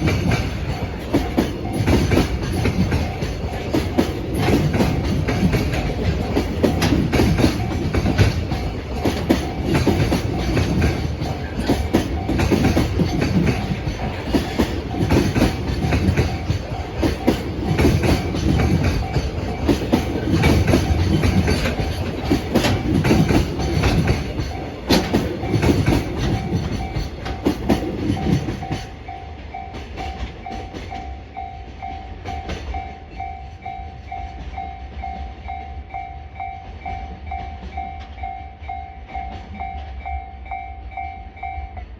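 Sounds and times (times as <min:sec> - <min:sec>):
train wheels clacking over rail joints: 0:00.0 - 0:35.5
crossing warning bell ringing: 0:00.0 - 0:41.9.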